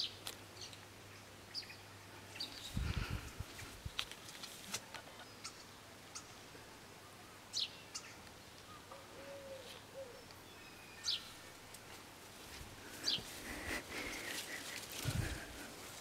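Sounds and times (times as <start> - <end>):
outdoor background hiss: 0.0 - 16.0
songbirds chirping: 0.0 - 16.0.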